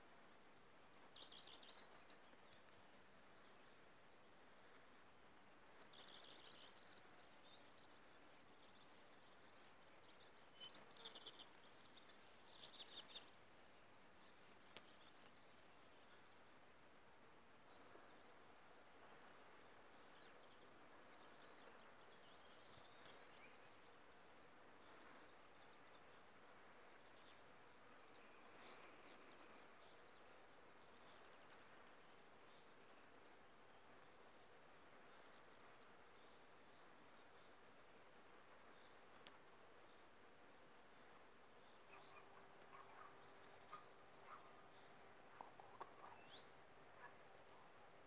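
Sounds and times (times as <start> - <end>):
faint outdoor ambience: 0.0 - 48.0
faint songbird chirps: 0.0 - 48.0
steady low hiss: 0.0 - 48.0.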